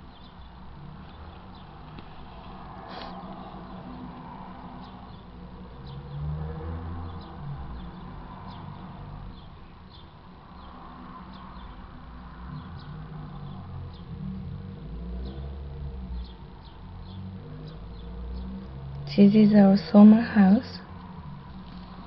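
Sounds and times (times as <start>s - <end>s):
starlings chirping: 0.0s - 22.0s.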